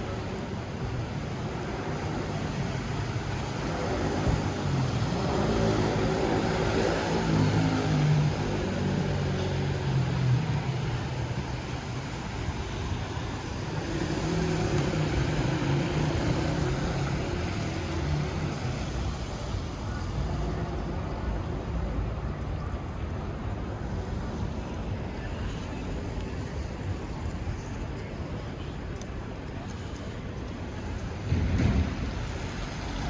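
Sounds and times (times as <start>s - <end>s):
passing vehicle engines hum: 0.0s - 28.6s, 29.2s - 33.0s
rain and tyres hissing: 0.0s - 29.0s, 29.8s - 33.0s.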